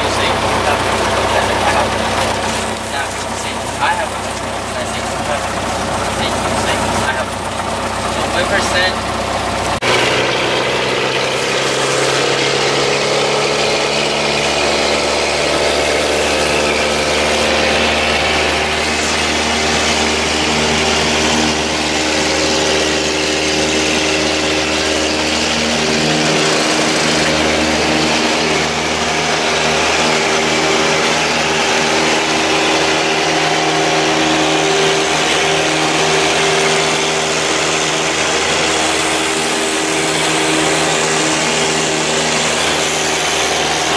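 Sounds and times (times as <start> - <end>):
propeller plane engine from cabin: 0.0 - 43.9.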